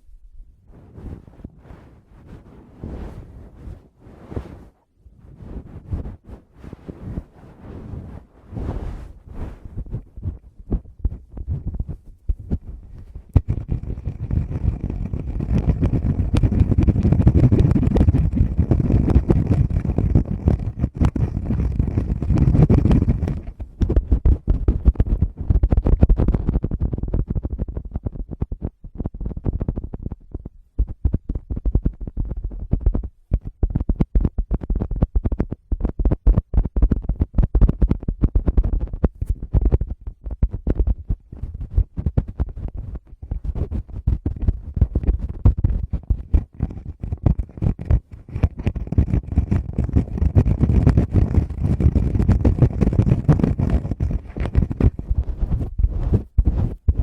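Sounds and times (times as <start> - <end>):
fingers tapping on microphone: 9.8 - 57.0.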